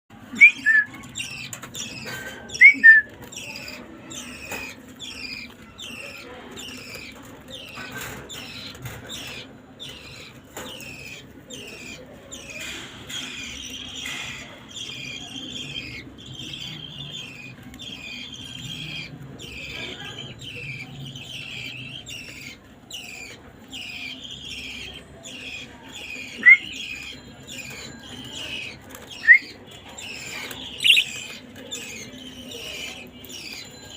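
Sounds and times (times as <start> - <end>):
bird chirping: 0.4 - 33.9
loud sharp bird calls: 0.4 - 33.9.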